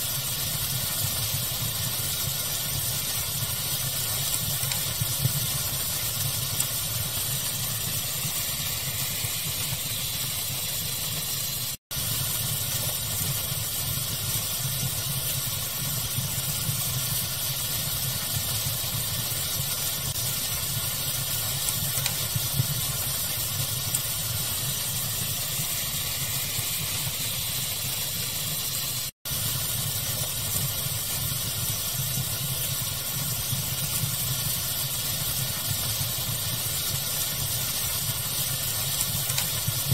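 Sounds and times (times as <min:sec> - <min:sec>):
faint fire crackles: 0:00.0 - 0:39.9
steady pink noise rush: 0:00.0 - 0:39.9.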